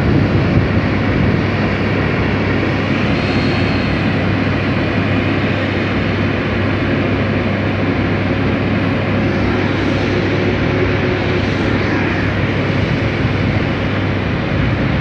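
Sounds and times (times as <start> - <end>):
aircraft engine roar: 0.0 - 15.0
low hum: 0.0 - 15.0.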